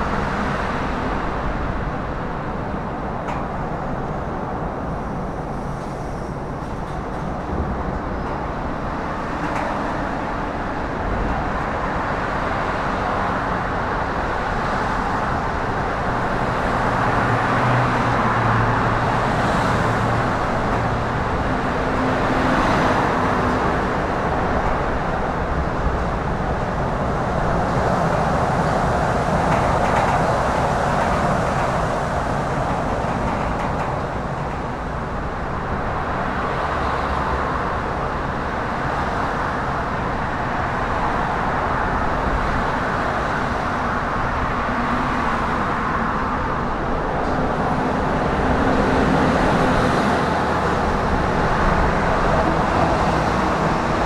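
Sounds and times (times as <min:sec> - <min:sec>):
road traffic hum: 0:00.0 - 0:54.0.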